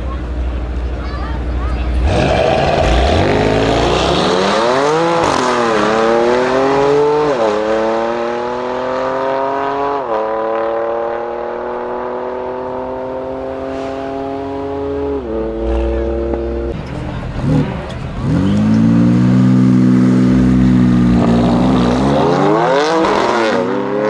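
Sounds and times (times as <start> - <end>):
cars accelerating hard: 1.9 - 24.0.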